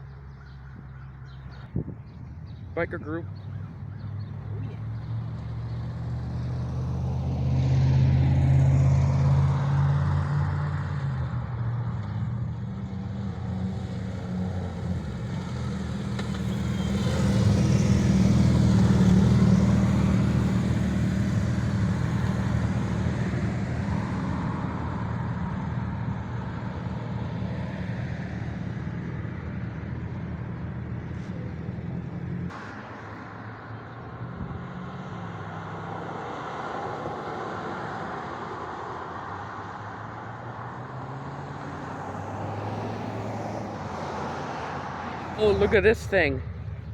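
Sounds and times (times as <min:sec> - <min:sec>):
motorcycles riding past: 0:00.0 - 0:46.9.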